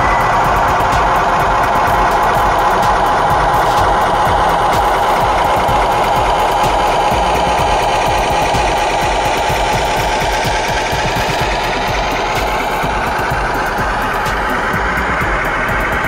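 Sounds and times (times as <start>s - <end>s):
model truck diesel engine sound: 0.0s - 16.0s.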